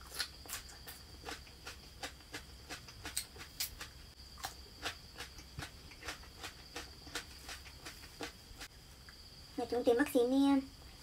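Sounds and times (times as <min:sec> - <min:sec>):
crunchy chewing of vegetables: 0:00.0 - 0:09.3.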